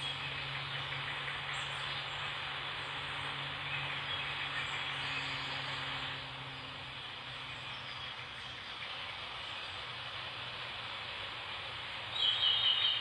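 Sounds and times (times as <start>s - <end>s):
low engine hum: 0.0s - 13.0s
tyres hissing on wet road: 0.0s - 13.0s.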